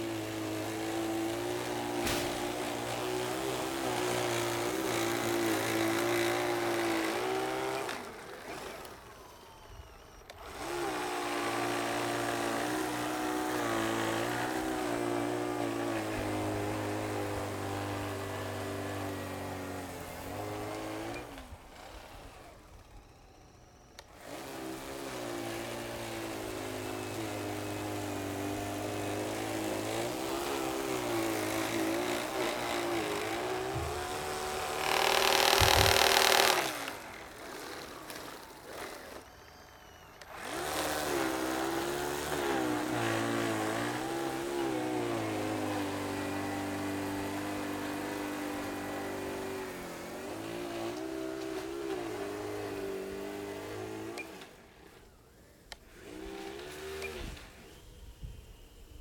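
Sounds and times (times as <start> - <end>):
snow blower motor humming: 0.0 - 59.0.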